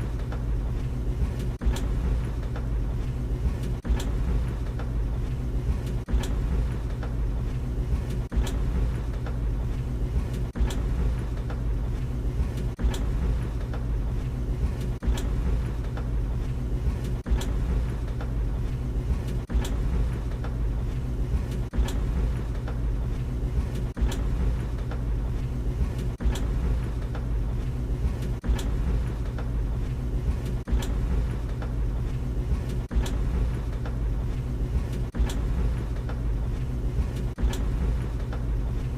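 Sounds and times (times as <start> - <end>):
dryer drum knocking: 0.0 - 38.9
tumble dryer humming: 0.0 - 38.9.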